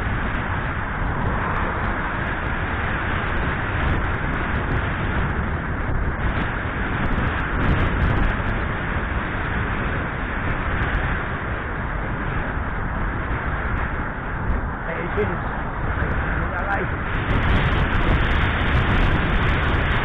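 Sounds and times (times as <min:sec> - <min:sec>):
bicycle tyre and road noise: 0:00.0 - 0:20.0
wind rushing over microphone: 0:00.0 - 0:20.0.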